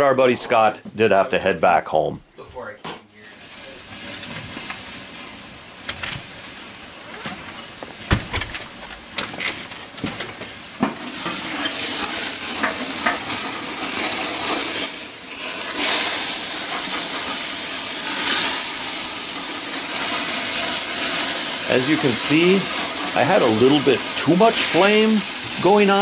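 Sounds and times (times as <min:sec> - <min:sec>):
burgers sizzling on a grill: 0:03.2 - 0:26.0
grease flare-up: 0:03.2 - 0:26.0.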